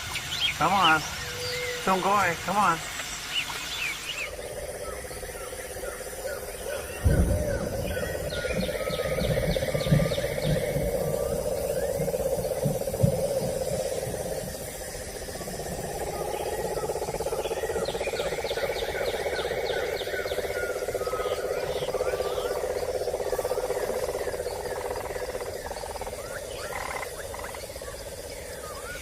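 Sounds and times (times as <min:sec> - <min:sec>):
birds chirping: 0:00.0 - 0:29.0
pulsing animal drone: 0:00.0 - 0:29.0.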